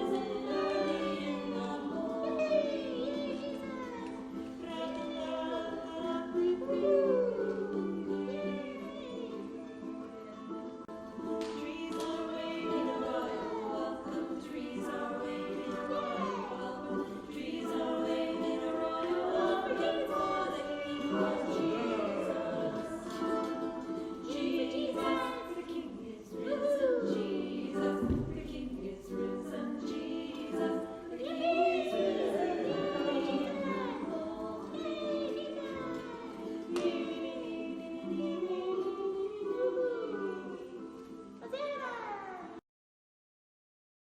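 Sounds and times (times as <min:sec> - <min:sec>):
choir singing: 0:00.0 - 0:41.4.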